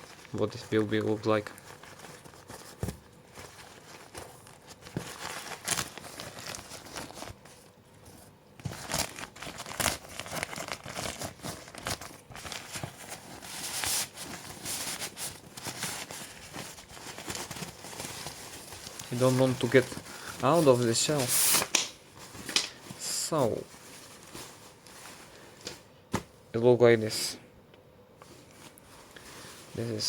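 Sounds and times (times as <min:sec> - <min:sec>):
fabric and packaging rustling: 0:00.0 - 0:27.3, 0:28.2 - 0:30.0.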